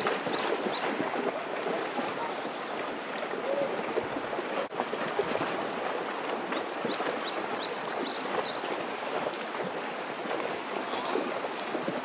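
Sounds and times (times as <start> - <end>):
horses wading through water: 0.0 - 12.0.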